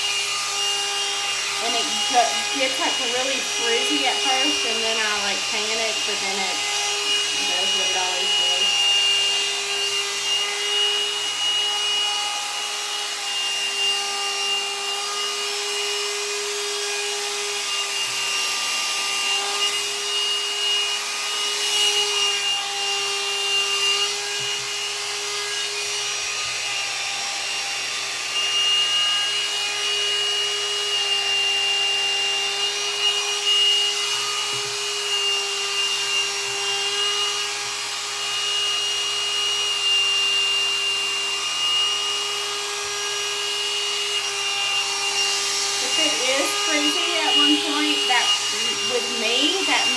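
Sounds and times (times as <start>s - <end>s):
hot-air dryer brush whining: 0.0s - 49.9s.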